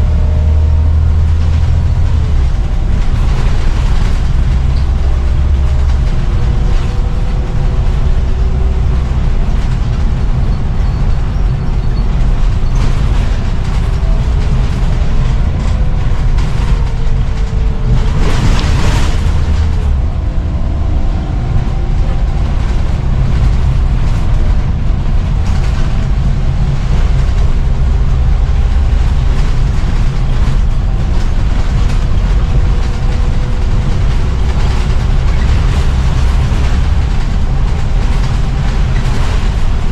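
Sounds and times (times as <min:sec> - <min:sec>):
bus engine rumble: 0:00.0 - 0:39.9
drivetrain whine: 0:00.0 - 0:39.9.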